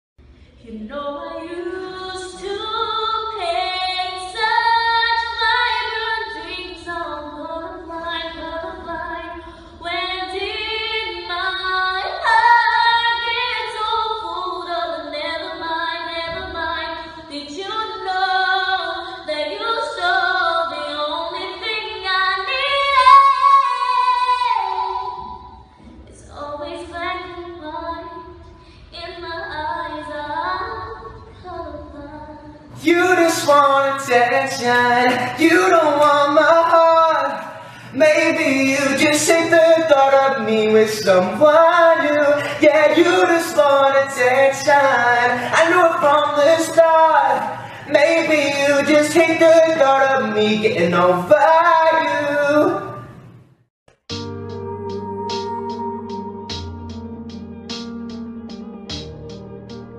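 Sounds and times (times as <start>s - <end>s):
woman singing a cappella: 0.6s - 53.0s.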